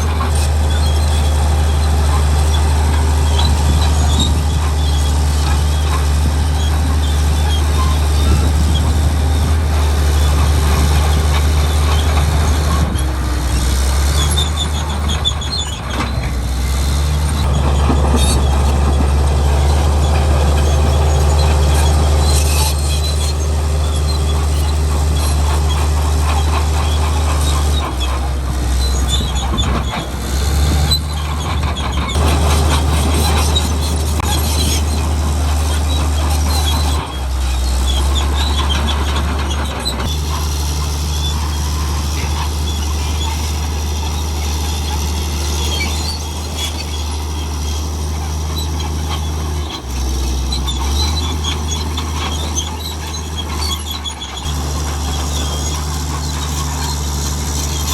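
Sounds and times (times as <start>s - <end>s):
bulldozer diesel engine: 0.0s - 57.9s
steel tracks squealing and clanking: 0.0s - 57.9s.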